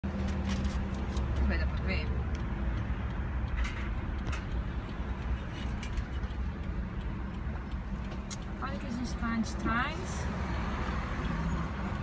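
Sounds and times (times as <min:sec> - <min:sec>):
car rumbling in traffic: 0:00.0 - 0:12.0.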